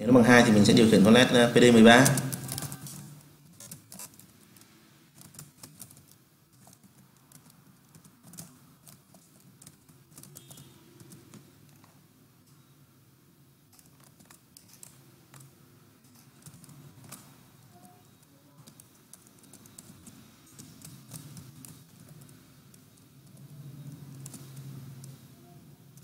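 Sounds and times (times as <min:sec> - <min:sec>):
computer keyboard typing: 0:01.2 - 0:12.0, 0:13.7 - 0:26.0.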